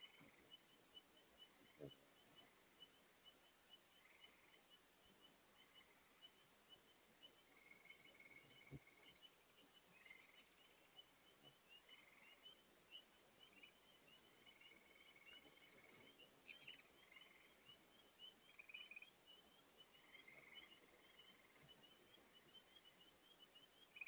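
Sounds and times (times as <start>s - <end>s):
hummingbirds chirping: 0.0s - 24.0s.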